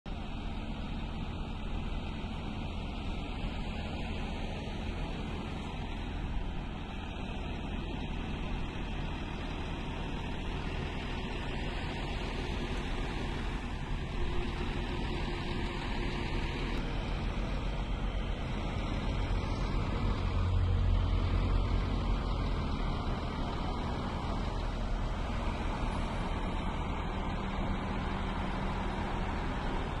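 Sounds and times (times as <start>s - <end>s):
car engines and tyre noise: 0.1s - 30.0s
car passing with low rumble: 0.1s - 30.0s.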